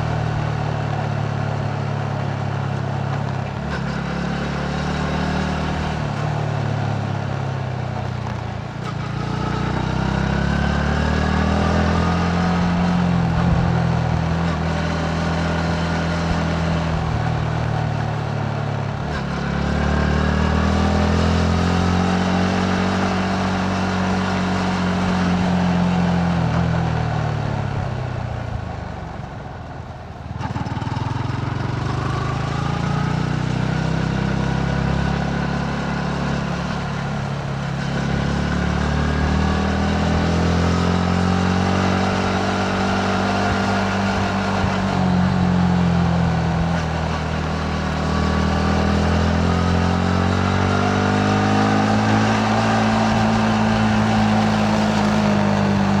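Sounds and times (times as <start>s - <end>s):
motorcycle engine: 0.0s - 56.0s
road and wind noise: 0.0s - 56.0s.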